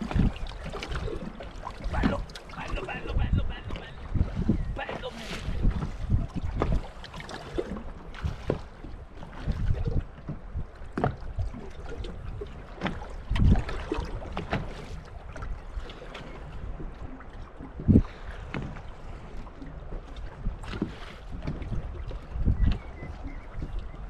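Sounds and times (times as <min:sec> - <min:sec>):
waves slapping boat hull: 0:00.0 - 0:24.0
wind on microphone: 0:00.0 - 0:24.0.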